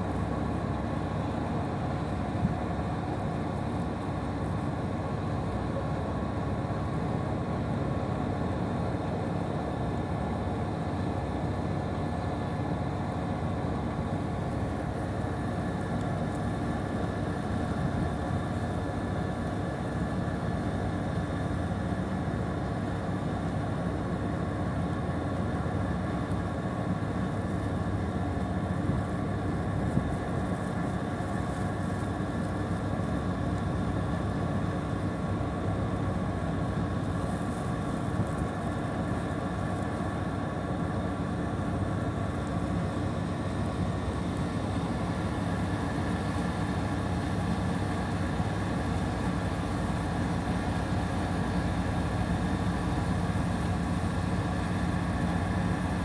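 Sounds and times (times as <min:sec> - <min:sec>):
idling machinery hum: 0:00.0 - 0:56.0.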